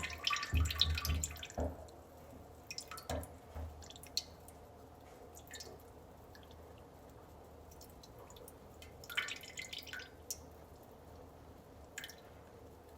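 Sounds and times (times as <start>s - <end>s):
urine dripping and splashing: 0.0s - 2.0s, 2.6s - 12.9s.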